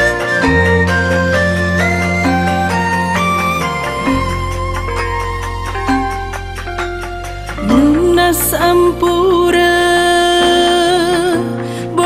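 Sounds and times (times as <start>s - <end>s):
low sustained bass note: 0.0s - 9.8s
high sustained melody: 0.0s - 11.0s.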